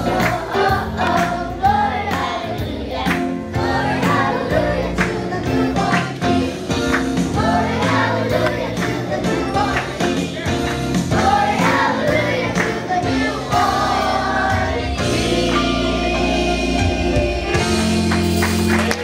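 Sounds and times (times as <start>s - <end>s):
choir singing: 0.0s - 18.4s.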